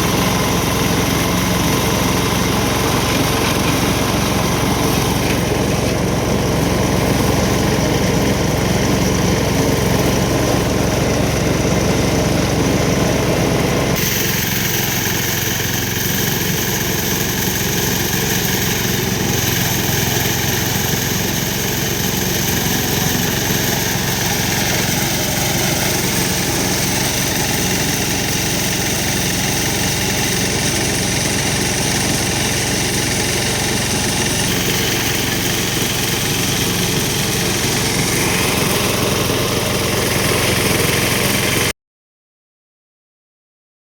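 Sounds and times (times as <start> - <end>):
engine running: 0.0 - 41.7.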